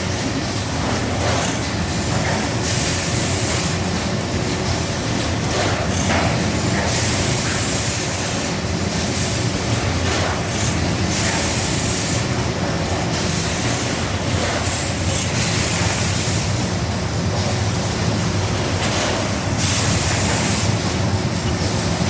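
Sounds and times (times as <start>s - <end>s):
machine mechanical hum: 0.0s - 22.0s.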